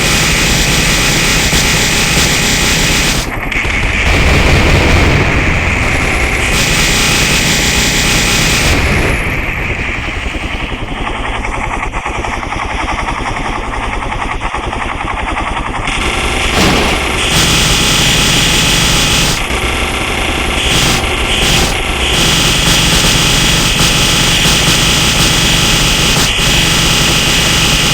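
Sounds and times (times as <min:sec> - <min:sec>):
helicopter rotor chopping: 0:00.0 - 0:27.9.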